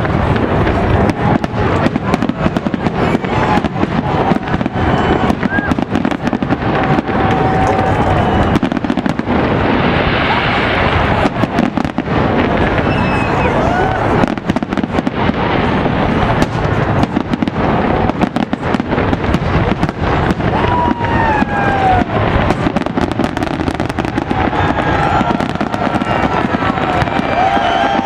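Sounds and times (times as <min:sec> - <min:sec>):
fireworks bangs: 0:00.0 - 0:28.0
fireworks crackling: 0:00.0 - 0:28.0.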